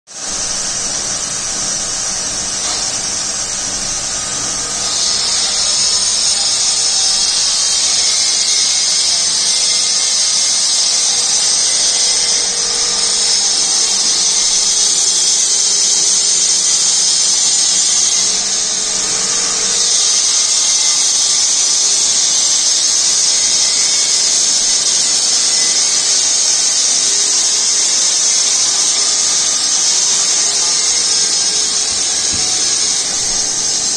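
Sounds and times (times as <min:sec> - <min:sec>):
high-pitched whirring hiss: 0:00.1 - 0:33.9.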